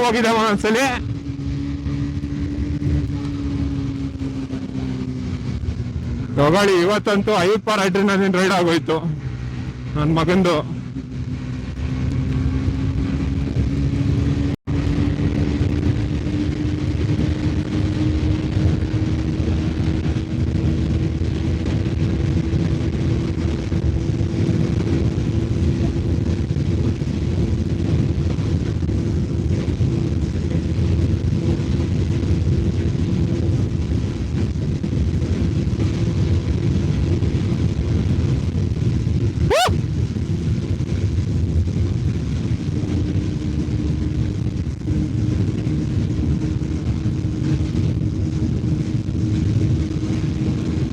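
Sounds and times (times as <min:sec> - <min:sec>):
motorcycle engine running hard: 0:00.0 - 0:50.9.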